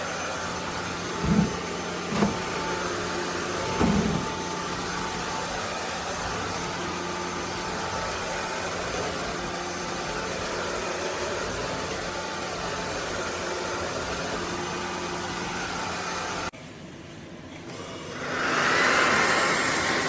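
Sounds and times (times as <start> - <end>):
stick vacuum running: 0.0 - 16.6, 17.5 - 20.0.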